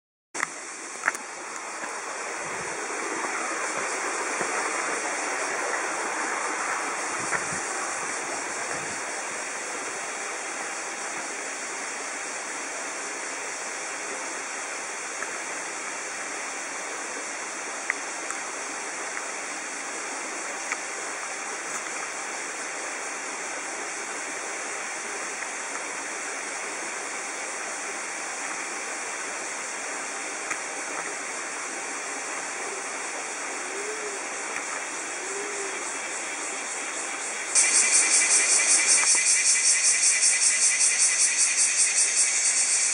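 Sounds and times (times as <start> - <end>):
running water rushing: 0.4 - 42.9.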